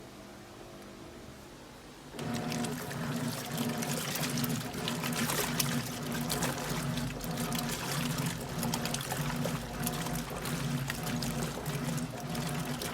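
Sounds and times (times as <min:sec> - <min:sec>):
washing machine low hum: 0:00.6 - 0:12.9
water pouring and splashing: 0:02.2 - 0:12.9.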